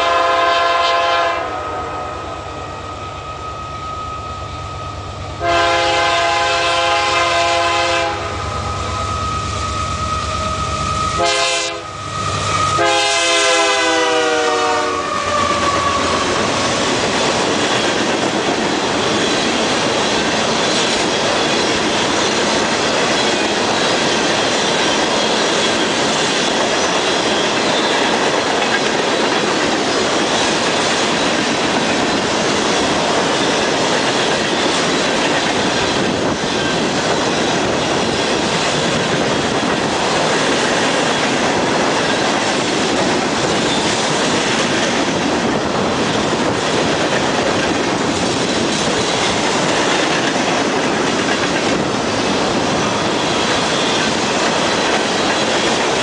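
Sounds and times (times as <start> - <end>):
steel train wheels on rails: 0.0 - 56.0.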